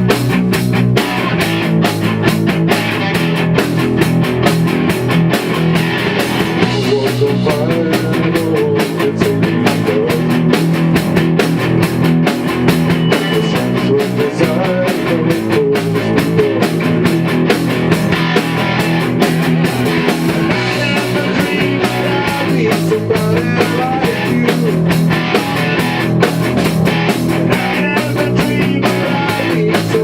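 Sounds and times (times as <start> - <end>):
punk rock band playing: 0.0 - 30.0.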